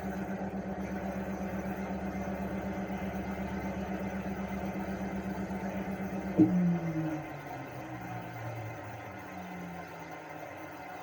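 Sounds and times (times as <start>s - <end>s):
air conditioner unit humming: 0.0s - 11.0s.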